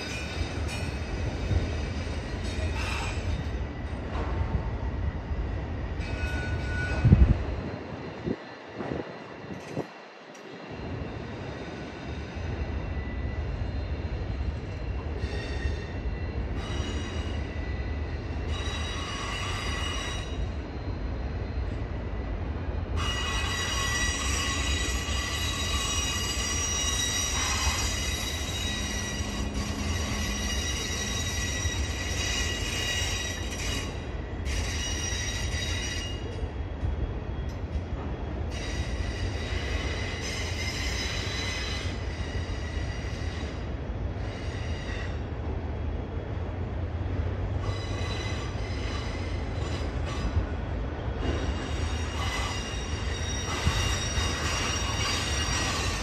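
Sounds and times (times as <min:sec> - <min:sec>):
train wheels squealing: 0:00.0 - 0:45.4, 0:47.1 - 0:56.0
low train rumble: 0:00.0 - 0:56.0.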